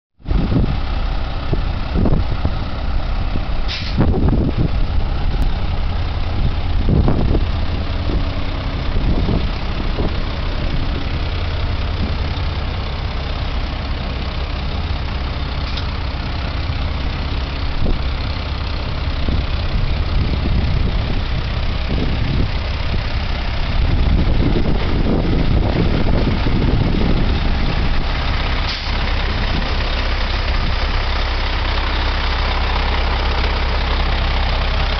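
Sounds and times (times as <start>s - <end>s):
diesel truck engine running: 0.2s - 34.9s.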